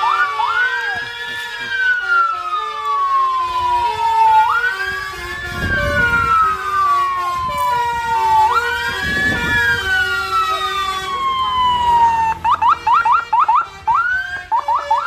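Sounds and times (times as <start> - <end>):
police siren wailing: 0.0 - 15.0
vehicle engine rumble: 0.0 - 15.0.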